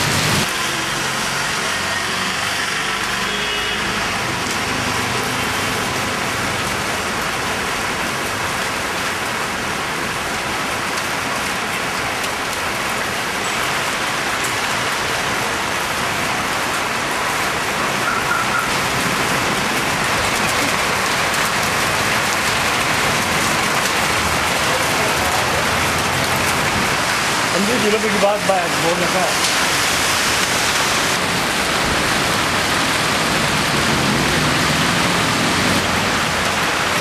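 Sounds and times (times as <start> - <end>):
cars passing on wet street: 0.0 - 37.0
rain on road and roofs: 0.0 - 37.0.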